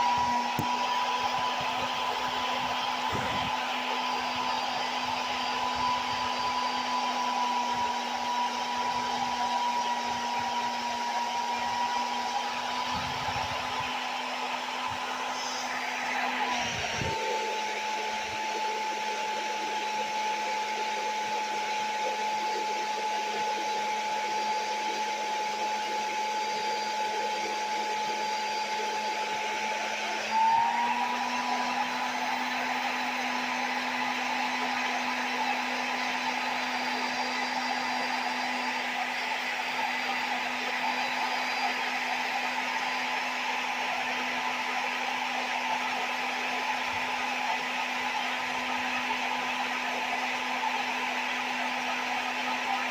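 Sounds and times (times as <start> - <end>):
appliance motor whining: 0.0 - 52.9
hair dryer blowing: 0.0 - 52.9.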